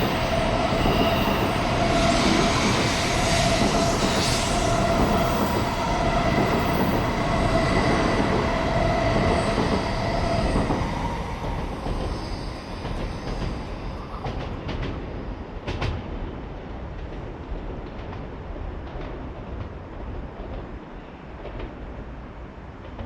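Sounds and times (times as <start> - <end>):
train rushing with faint whine: 0.0 - 23.0.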